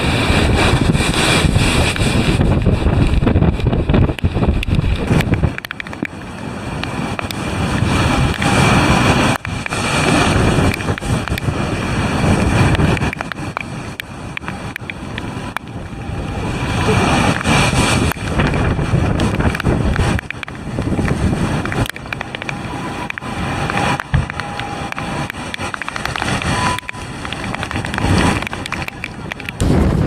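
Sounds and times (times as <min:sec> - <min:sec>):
waves crashing against seawall: 0:00.0 - 0:30.0
wind buffeting microphone: 0:00.0 - 0:30.0.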